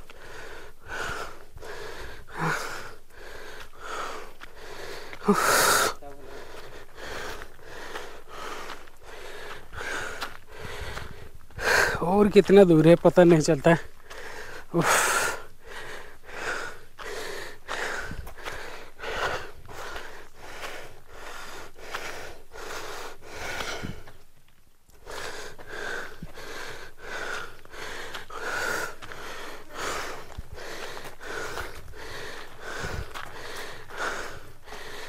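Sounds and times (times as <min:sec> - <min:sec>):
man breathing hard: 0:00.0 - 0:12.1, 0:13.9 - 0:24.2, 0:25.0 - 0:35.0.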